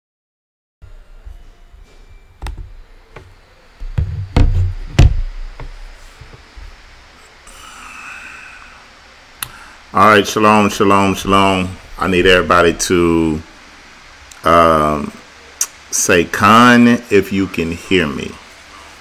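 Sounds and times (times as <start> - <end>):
faint hiss: 0.9 - 19.0.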